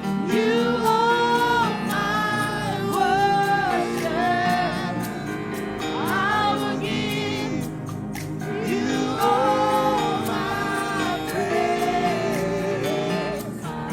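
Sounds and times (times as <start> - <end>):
instrumental backing with soft beat: 0.0 - 13.9
worship singing: 0.0 - 13.9.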